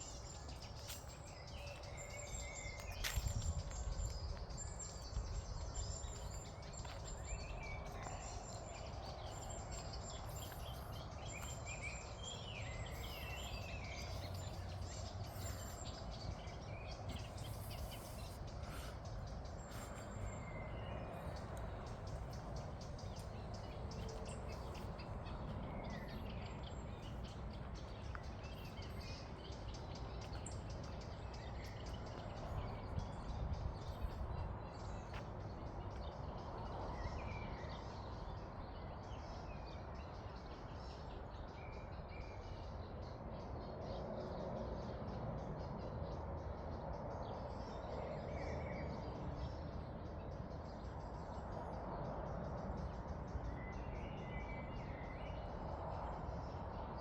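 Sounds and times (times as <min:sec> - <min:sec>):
bird calls and chirps: 0:00.0 - 0:57.0.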